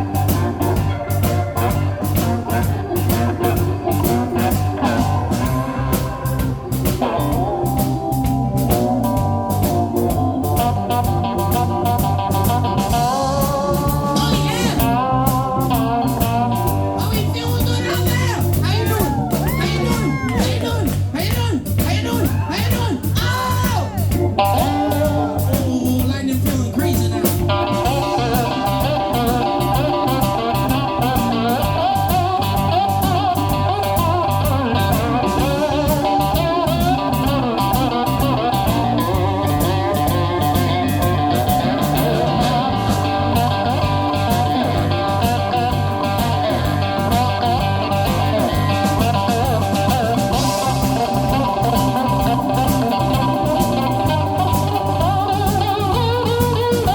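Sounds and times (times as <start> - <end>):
slide cigar box guitar blues: 0.0 - 56.9.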